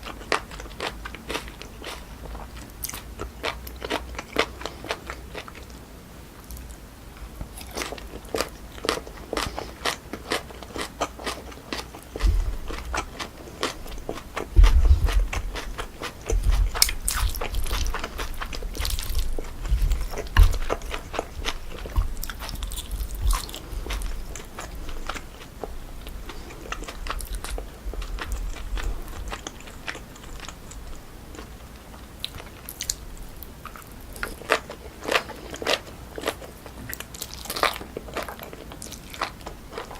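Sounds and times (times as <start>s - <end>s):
chewing and crunching food: 0.0s - 5.8s, 6.4s - 39.9s.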